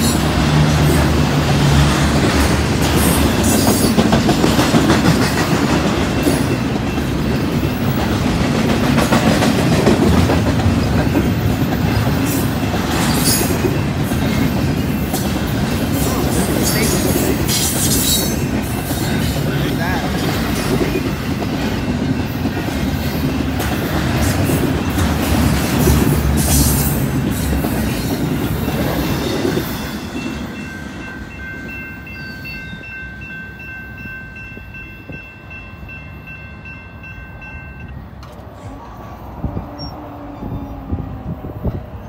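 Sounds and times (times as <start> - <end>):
crossing warning bell ringing: 0.0 - 38.4
train rumble and wheel clatter: 0.0 - 42.0.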